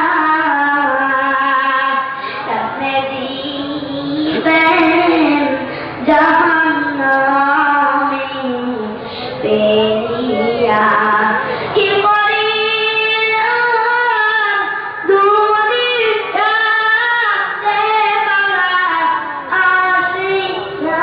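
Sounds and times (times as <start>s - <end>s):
child singing: 0.0s - 21.0s.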